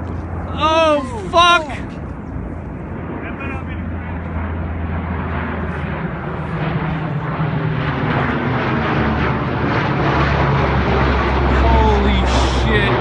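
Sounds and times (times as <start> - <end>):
plane engines flying over: 0.0 - 13.0.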